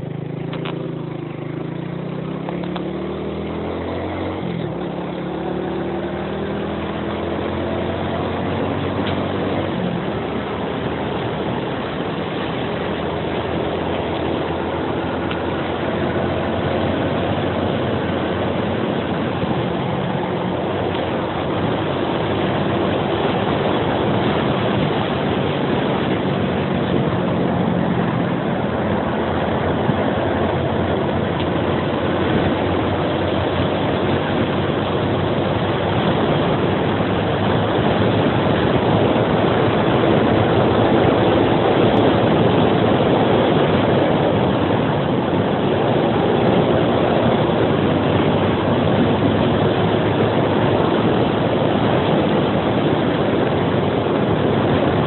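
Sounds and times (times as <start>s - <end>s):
motorcycle engine running: 0.0s - 55.0s
wind and road rush: 0.0s - 55.0s.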